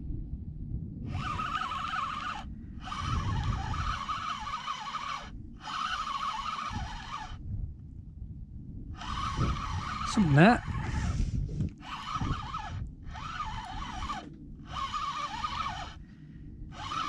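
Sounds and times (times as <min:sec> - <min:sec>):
wind rumble: 0:00.0 - 0:17.0
fishing reel whirring: 0:01.1 - 0:07.4, 0:09.0 - 0:17.0.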